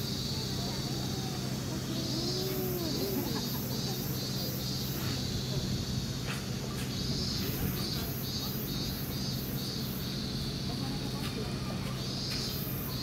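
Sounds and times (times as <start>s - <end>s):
insect chirping: 0.0s - 13.0s
steady low hum: 0.0s - 13.0s.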